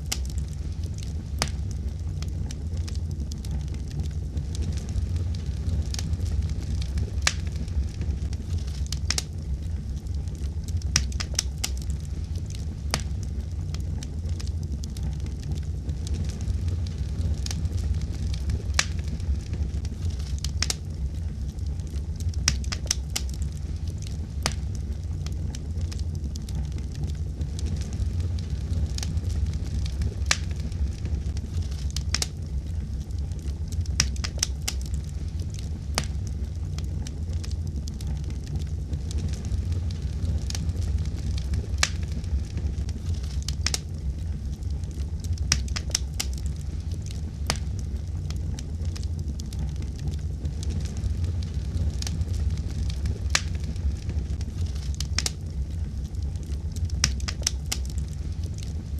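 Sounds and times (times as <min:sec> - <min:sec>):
fire crackling in a fireplace: 0:00.0 - 0:58.9.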